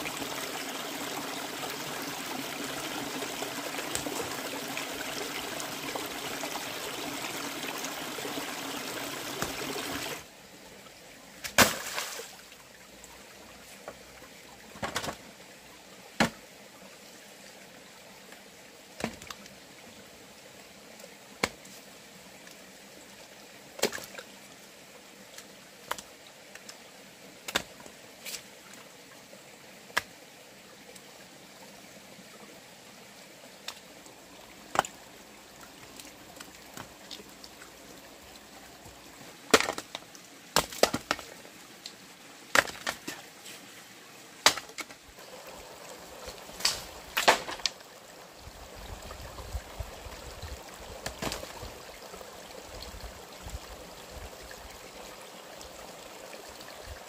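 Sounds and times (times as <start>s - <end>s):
running water: 0.0s - 26.9s, 27.5s - 57.0s.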